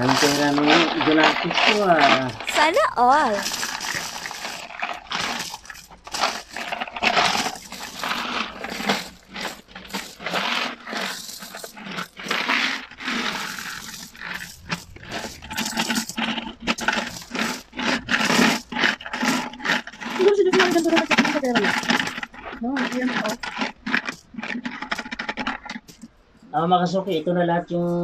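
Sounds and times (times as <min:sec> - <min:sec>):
coins pouring and clattering: 0:00.0 - 0:26.1.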